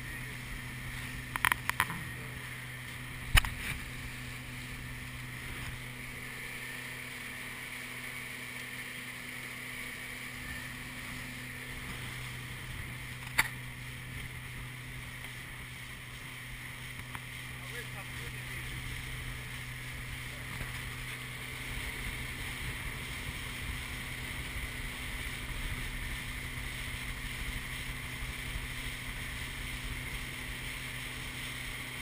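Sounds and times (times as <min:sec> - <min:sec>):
motorboat engine droning: 0:00.0 - 0:32.0.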